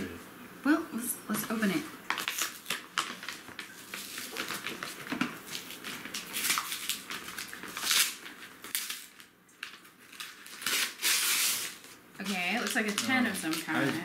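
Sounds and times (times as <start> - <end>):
envelope crinkling and rustling: 2.1 - 14.0
envelope tearing: 2.1 - 14.0.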